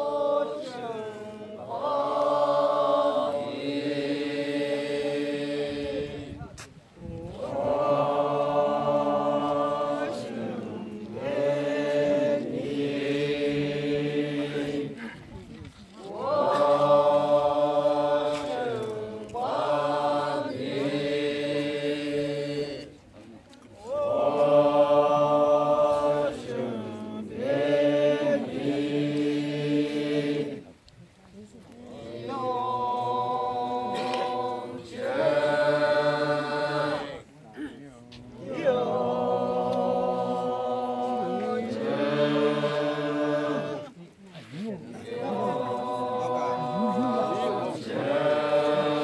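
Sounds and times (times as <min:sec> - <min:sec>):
men's choir singing in harmony: 0:00.0 - 0:06.4, 0:07.2 - 0:15.1, 0:16.1 - 0:23.0, 0:23.9 - 0:30.6, 0:32.0 - 0:37.2, 0:38.4 - 0:43.9, 0:44.9 - 0:49.0.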